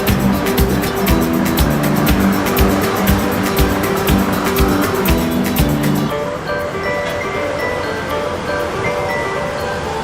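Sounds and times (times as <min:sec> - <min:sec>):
light melody of held notes: 0:00.0 - 0:10.0.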